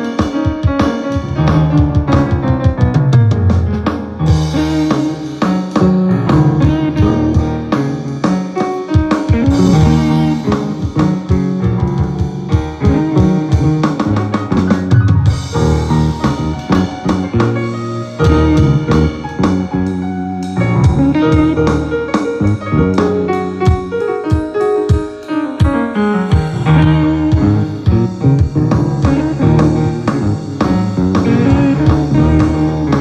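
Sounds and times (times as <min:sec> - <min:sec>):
drum kit beat: 0:00.0 - 0:33.0
guitar: 0:00.0 - 0:33.0
rock and roll band playing: 0:00.0 - 0:33.0.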